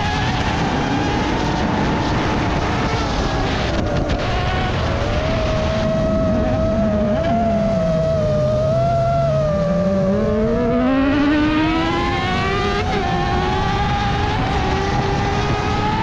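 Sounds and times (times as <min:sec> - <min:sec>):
buggy engine revving: 0:00.0 - 0:16.0
drone motors whining: 0:00.0 - 0:16.0.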